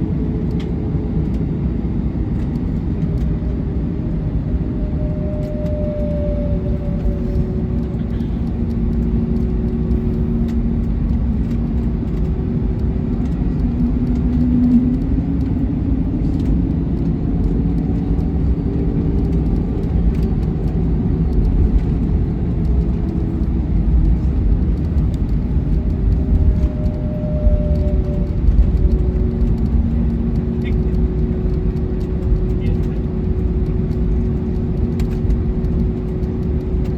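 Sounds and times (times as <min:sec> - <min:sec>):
airplane cabin rumble: 0:00.0 - 0:36.9
jet engines idling hum: 0:00.0 - 0:36.9.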